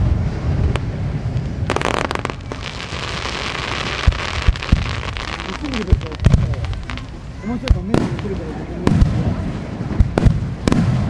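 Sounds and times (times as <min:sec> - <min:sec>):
crackle of bursting fireworks: 0:00.0 - 0:11.0
fireworks bangs: 0:00.0 - 0:11.0
low fireworks thumps: 0:00.0 - 0:11.0.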